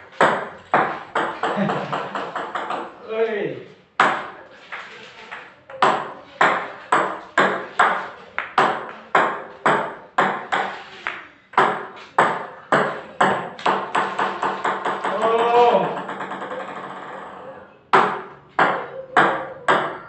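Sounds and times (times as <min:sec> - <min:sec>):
ping pong ball bouncing: 0:00.0 - 0:03.0, 0:04.0 - 0:20.0.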